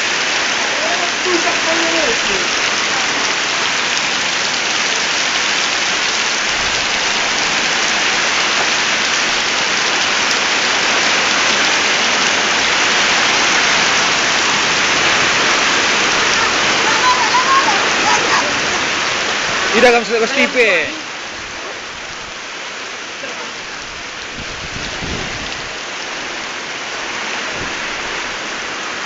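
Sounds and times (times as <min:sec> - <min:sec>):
hail and heavy rain: 0:00.0 - 0:29.0.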